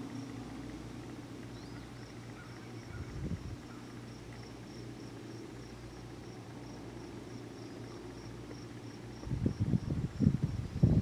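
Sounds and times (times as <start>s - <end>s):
faint low hum: 0.0s - 11.0s
cricket chirping: 1.0s - 10.6s.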